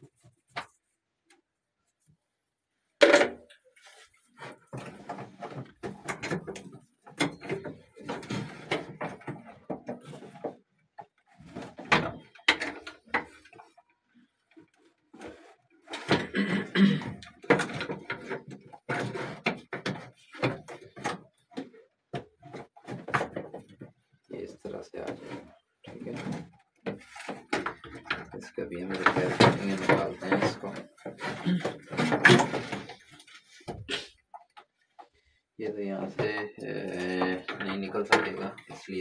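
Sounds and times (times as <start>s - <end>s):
plastic knocks and scraping: 3.0s - 39.0s.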